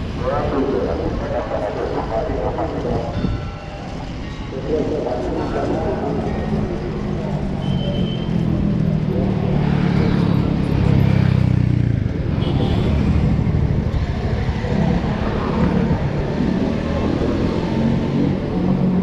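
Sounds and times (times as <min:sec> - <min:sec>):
road traffic roar: 0:00.0 - 0:19.0.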